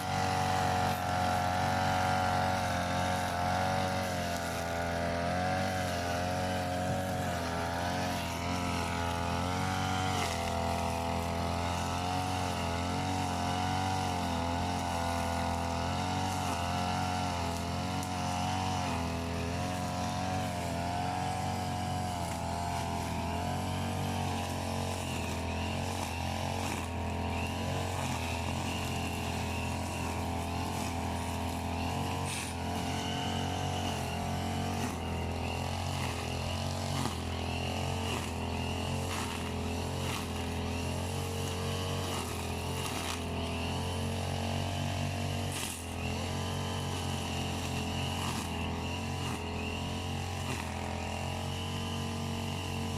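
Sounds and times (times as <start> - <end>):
brush cutter engine running: 0.0 - 52.9.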